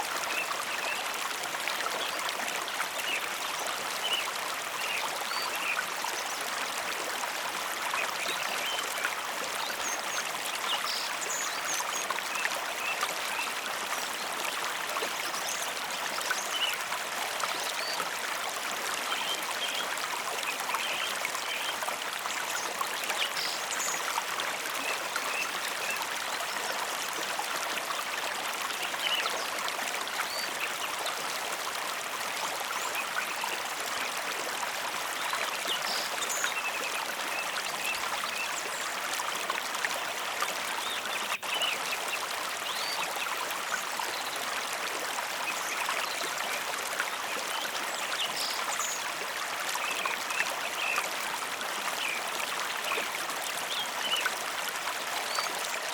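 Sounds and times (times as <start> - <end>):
small splashes and trickles: 0.0 - 55.9.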